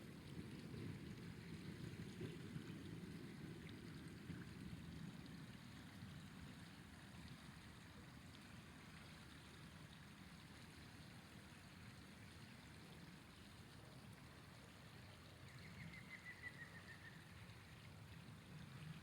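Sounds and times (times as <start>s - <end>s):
river water flowing: 0.1s - 19.0s.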